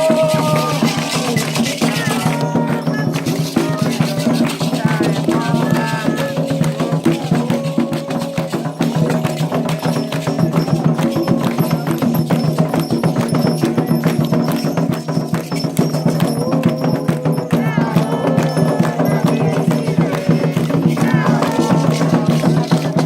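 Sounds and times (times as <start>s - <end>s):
fast hand drums and percussion: 0.0s - 23.0s
voices singing: 0.0s - 23.0s.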